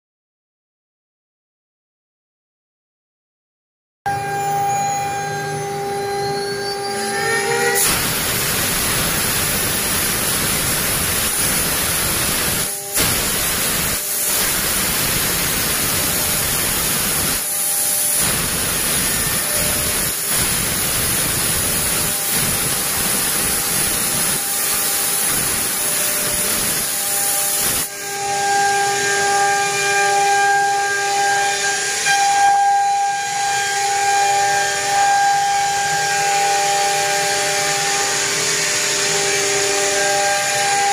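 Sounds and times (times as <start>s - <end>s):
router bit cutting wood: 4.1s - 40.9s
spindle high whine: 4.1s - 40.9s.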